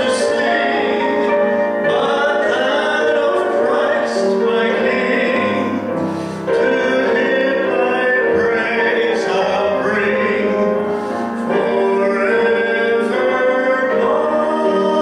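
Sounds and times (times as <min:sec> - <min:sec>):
man singing into microphone: 0:00.0 - 0:05.9, 0:06.5 - 0:15.0.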